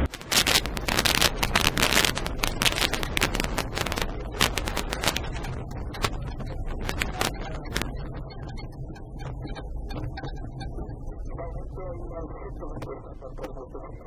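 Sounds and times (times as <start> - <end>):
glider rolling over grass: 0.0 - 12.0.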